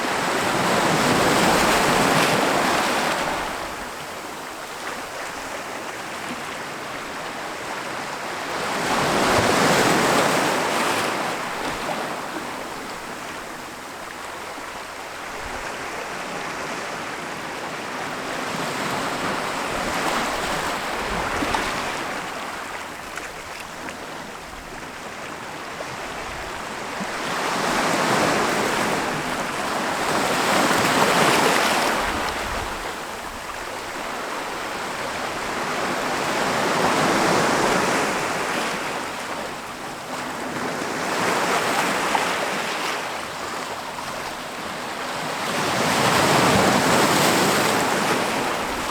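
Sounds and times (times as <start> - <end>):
ocean waves breaking on beach: 0.0 - 48.9.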